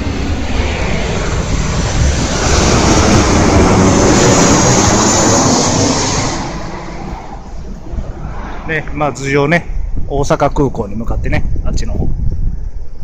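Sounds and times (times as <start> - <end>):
jet airliner passing overhead: 0.0 - 11.2.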